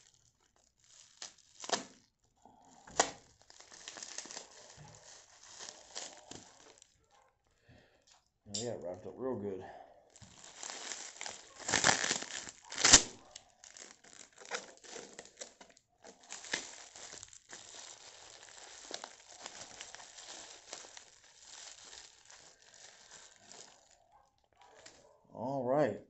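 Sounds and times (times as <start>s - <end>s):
bubble wrap crinkling: 0.0s - 7.1s, 10.1s - 25.1s.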